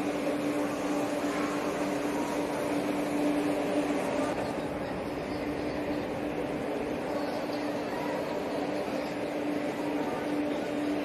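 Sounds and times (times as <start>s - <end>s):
constant humming tone: 0.0s - 11.0s.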